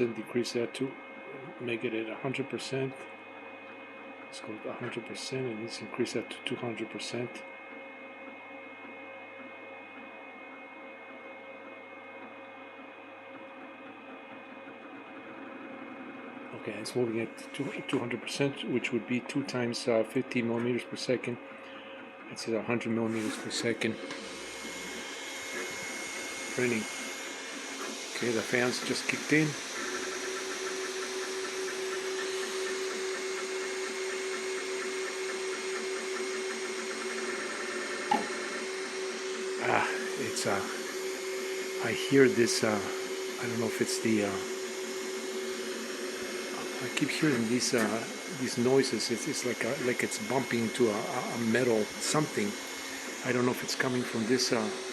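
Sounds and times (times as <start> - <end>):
cooling fans: 0.0 - 54.9
mechanical hum: 0.0 - 54.9
printer motors whining: 0.0 - 54.9.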